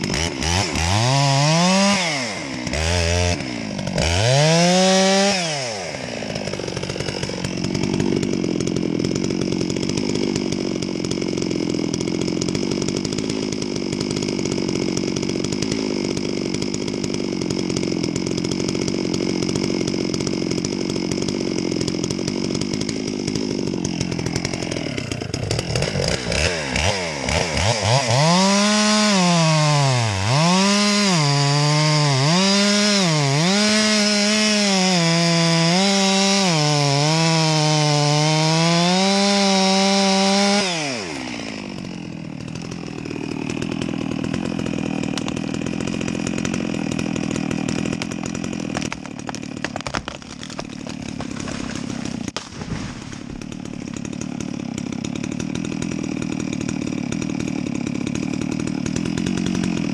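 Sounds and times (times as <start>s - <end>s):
chainsaw sawing into tree: 0.0s - 59.9s.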